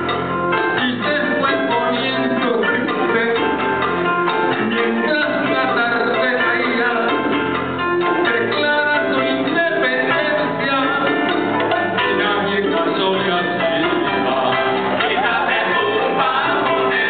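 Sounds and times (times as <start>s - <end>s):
plucked string accompaniment: 0.0s - 17.0s
man singing into a microphone: 0.6s - 3.8s, 4.4s - 17.0s.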